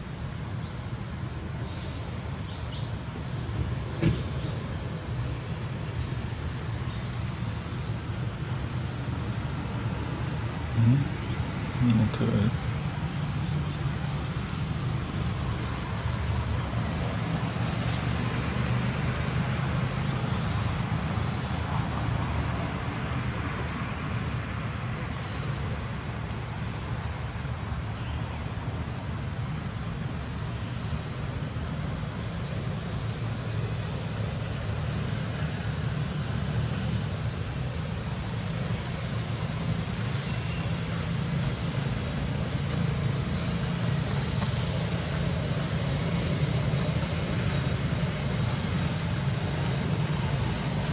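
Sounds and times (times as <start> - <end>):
low rumble of distant traffic: 0.0 - 50.9.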